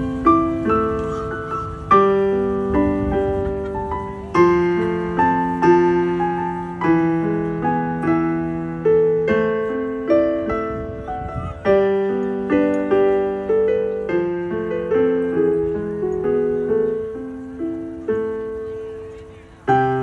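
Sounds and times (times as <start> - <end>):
slow piano piece on keyboard: 0.0 - 20.0.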